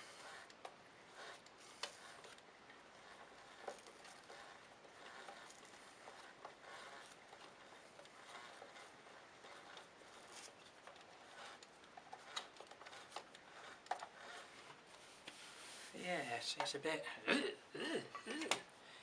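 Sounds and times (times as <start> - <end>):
drive belt rubbing and clicking: 0.0 - 15.4.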